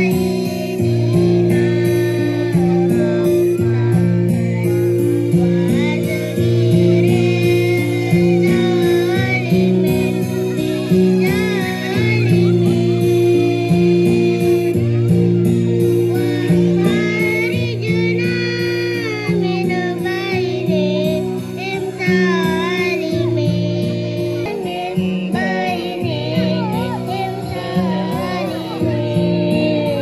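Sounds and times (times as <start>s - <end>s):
backing music with bass notes: 0.0s - 30.0s
child singing: 0.0s - 30.0s.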